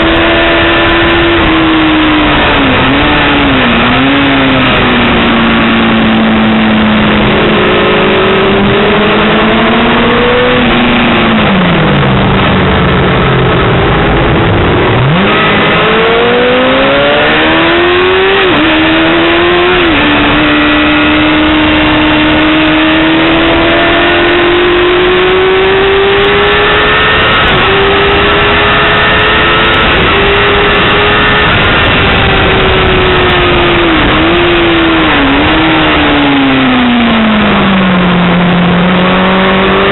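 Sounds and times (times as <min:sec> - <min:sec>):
motorcycle engine at high revs: 0:00.0 - 0:39.9
steady rushing noise: 0:00.0 - 0:39.9.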